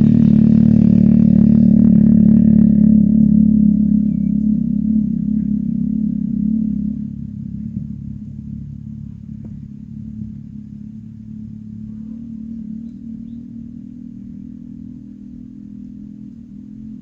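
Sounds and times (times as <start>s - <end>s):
engine hum: 0.0s - 17.0s.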